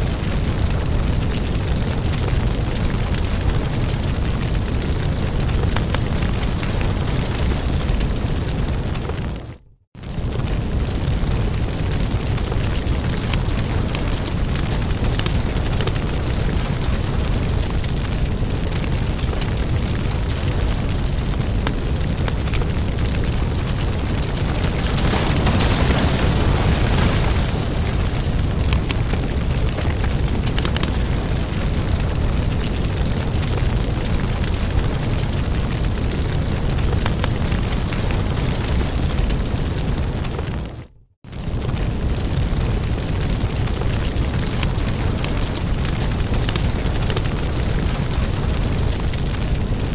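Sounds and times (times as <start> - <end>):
fire flames rumbling: 0.0 - 49.9
wood fire crackling and popping: 0.0 - 49.9.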